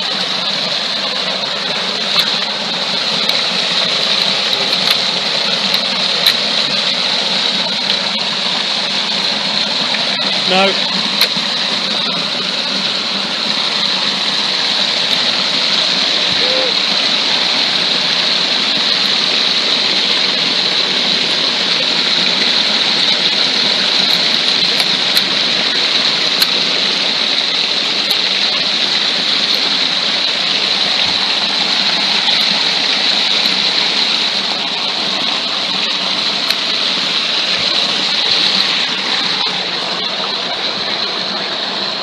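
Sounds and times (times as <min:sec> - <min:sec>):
stream water rushing over rocks: 0:00.0 - 0:42.0.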